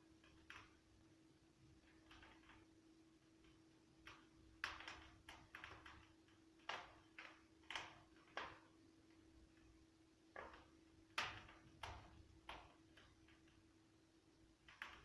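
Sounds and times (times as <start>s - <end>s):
faint steady hum: 0.0s - 15.0s
logs crackling in fireplace: 0.0s - 15.0s.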